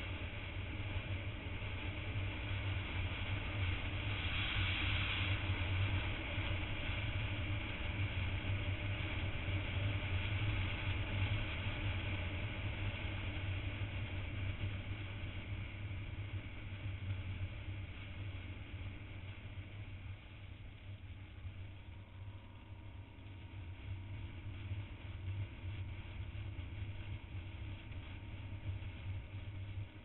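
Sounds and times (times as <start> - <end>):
motorcycle engine drone: 0.0 - 30.0.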